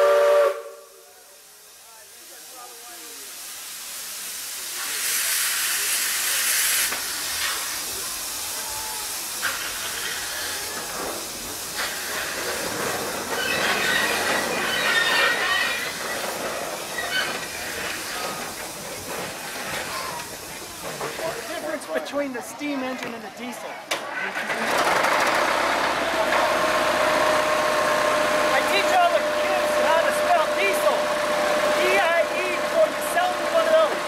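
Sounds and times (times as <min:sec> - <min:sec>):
steam locomotive hissing steam: 0:00.0 - 0:22.7, 0:24.7 - 0:34.0.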